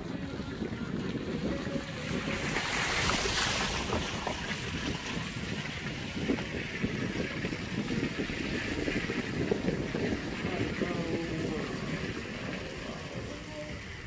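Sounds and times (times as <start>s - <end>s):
car road rumble: 0.0s - 14.0s
wind buffeting microphone: 0.0s - 14.0s.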